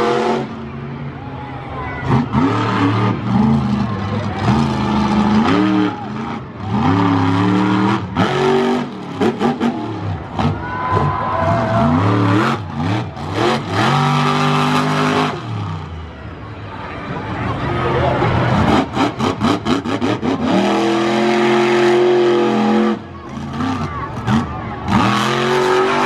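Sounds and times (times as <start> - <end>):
truck engine revving: 0.0 - 16.4, 17.2 - 26.0.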